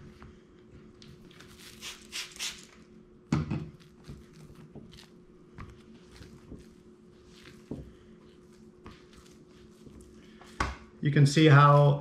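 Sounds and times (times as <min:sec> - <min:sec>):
dough squelching and peeling: 0:00.0 - 0:03.0, 0:03.7 - 0:10.6.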